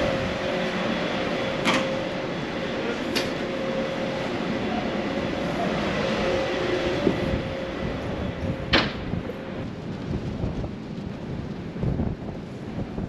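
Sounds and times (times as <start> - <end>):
ship engine hum: 0.0 - 13.0.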